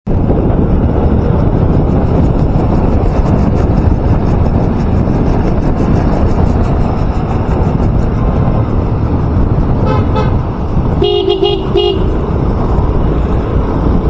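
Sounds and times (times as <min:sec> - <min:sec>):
motorcycle road noise: 0:00.1 - 0:14.0
wind rush: 0:00.1 - 0:14.0.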